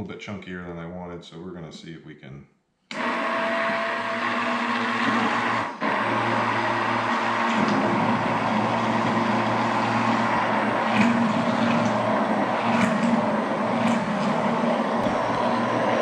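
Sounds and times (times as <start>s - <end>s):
immersion blender motor: 2.9s - 16.0s.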